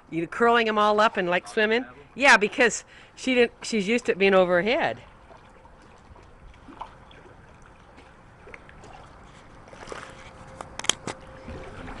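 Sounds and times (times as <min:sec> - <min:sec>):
water splashing in pool: 0:00.5 - 0:12.0.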